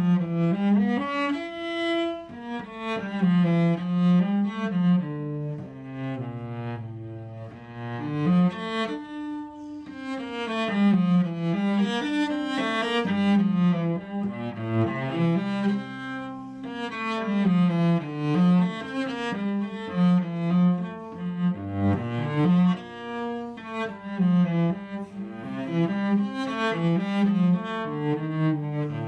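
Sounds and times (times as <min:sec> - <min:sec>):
bowed cello: 0:00.0 - 0:29.0.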